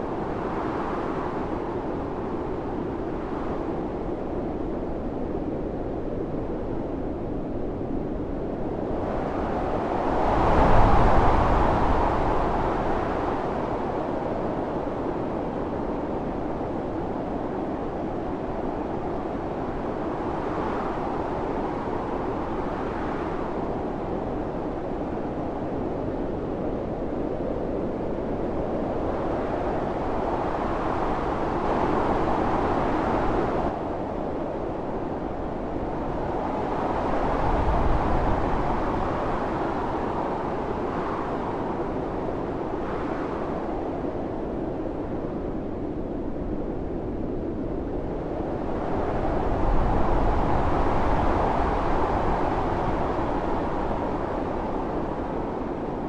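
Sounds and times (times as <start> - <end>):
blizzard wind gusts: 0.0 - 56.0.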